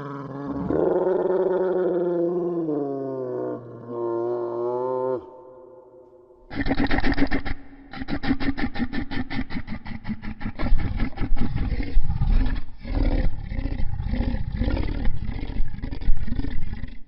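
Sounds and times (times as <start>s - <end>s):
dinosaur roar: 0.0s - 17.0s.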